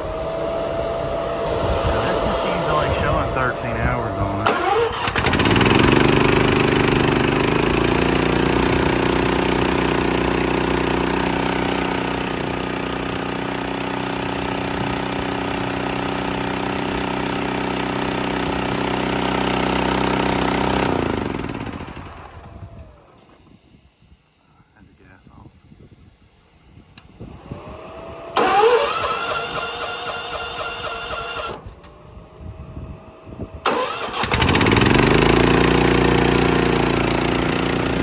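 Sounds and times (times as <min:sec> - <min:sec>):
air compressor gas engine running: 0:00.0 - 0:32.1, 0:33.5 - 0:38.0.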